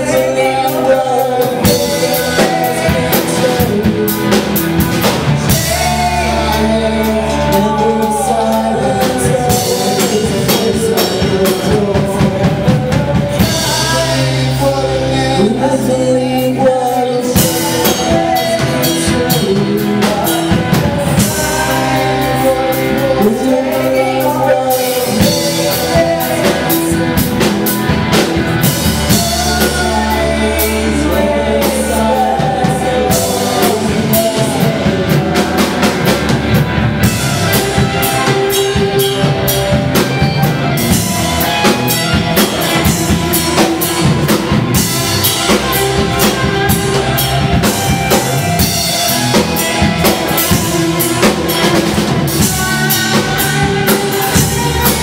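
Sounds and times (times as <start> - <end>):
woman singing: 0.0 - 36.2, 41.4 - 55.0
drum kit beats: 0.0 - 55.0
electric guitars: 0.0 - 55.0.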